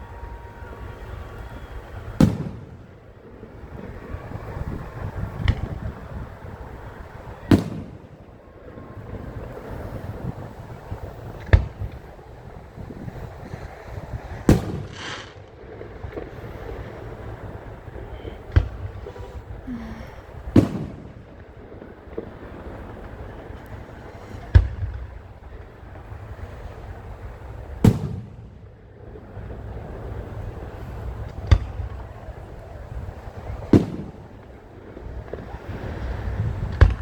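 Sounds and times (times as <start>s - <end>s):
fireworks bangs: 0.0s - 37.0s
fireworks crackle: 0.0s - 37.0s
low background rumble: 0.0s - 37.0s.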